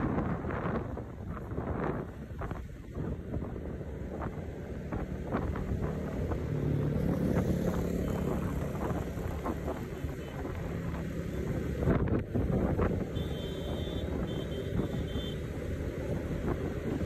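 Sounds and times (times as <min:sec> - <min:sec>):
wind buffeting microphone: 0:00.0 - 0:13.2, 0:14.0 - 0:17.0
vehicle engine and road noise: 0:00.0 - 0:17.0.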